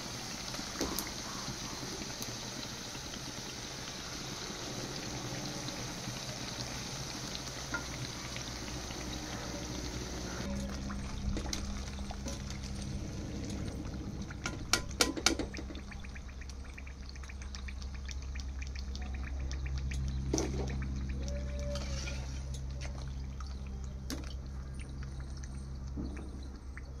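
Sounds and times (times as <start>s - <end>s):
oil sizzling and crackling: 0.0s - 27.0s
low hum: 4.2s - 27.0s.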